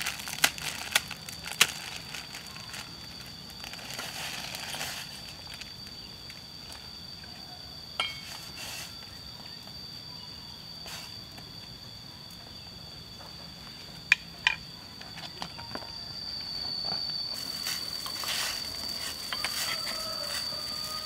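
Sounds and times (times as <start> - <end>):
insect drone: 0.0 - 21.0.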